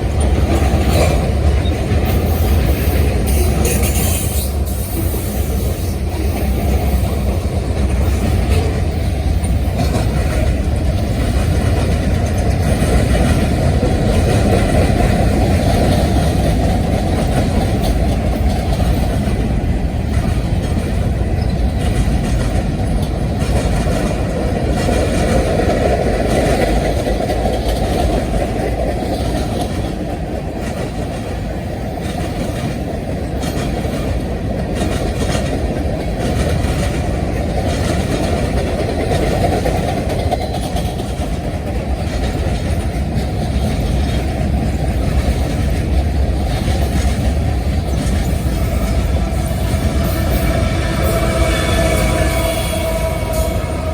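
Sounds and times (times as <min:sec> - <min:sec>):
freight train wheels on rails: 0:00.0 - 0:53.9.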